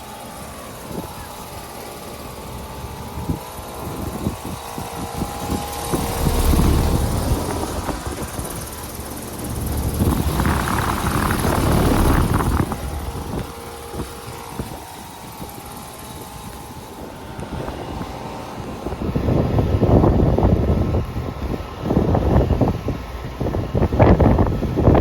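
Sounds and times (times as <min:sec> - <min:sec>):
heat pump humming: 0:00.0 - 0:24.9
wind rumble on microphone: 0:02.8 - 0:25.0.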